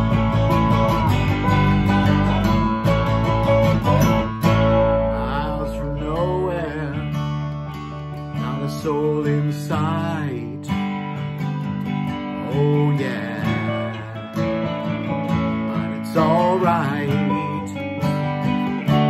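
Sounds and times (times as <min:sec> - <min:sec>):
acoustic guitar strumming: 0:00.0 - 0:19.0
bending lead melody: 0:00.0 - 0:19.0
sustained bass notes: 0:00.0 - 0:19.0.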